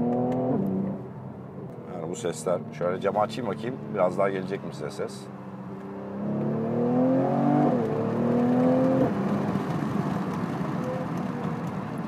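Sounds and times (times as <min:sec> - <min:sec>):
road and wind noise: 0:00.0 - 0:12.0
car engine accelerating: 0:01.7 - 0:12.0.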